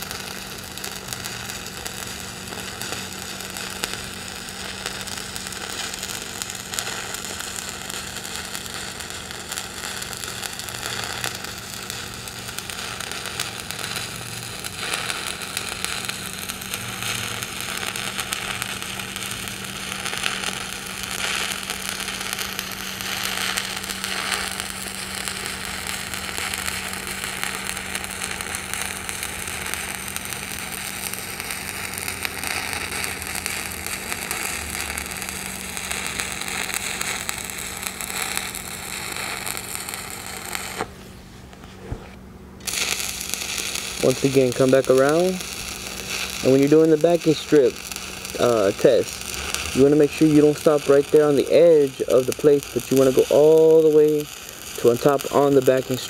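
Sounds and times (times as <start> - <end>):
welding arc crackling: 0.0 - 41.0, 42.6 - 56.0
steady hum: 0.0 - 56.0.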